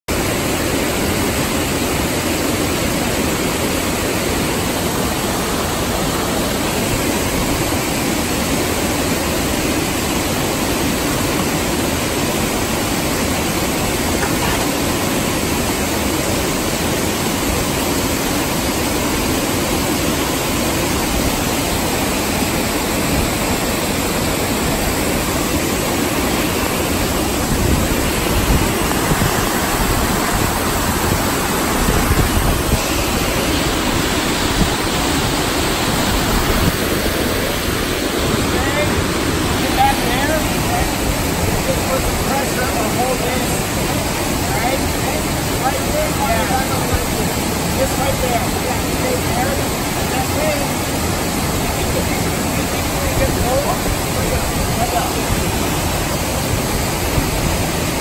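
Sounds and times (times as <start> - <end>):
water rushing over rocks: 0.1 - 58.0.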